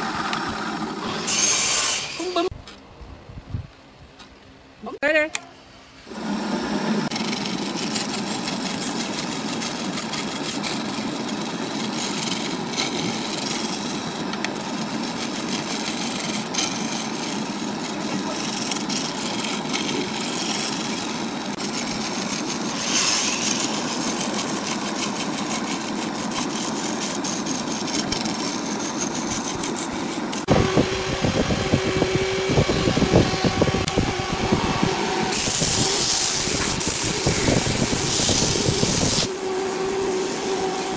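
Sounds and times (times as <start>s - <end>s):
sandpaper hissing on wood: 1.0s - 2.5s, 7.1s - 30.9s, 32.3s - 40.9s
wood lathe tool scraping: 6.1s - 40.9s.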